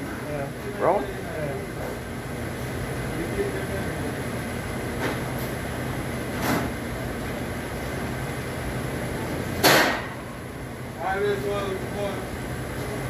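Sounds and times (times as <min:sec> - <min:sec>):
kitchen ventilation hum: 0:00.0 - 0:13.0.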